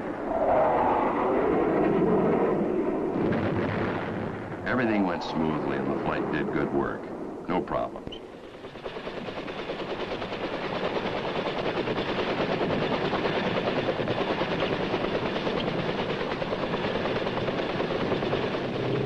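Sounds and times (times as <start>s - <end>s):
helicopter rotors chopping: 1.7s - 19.0s.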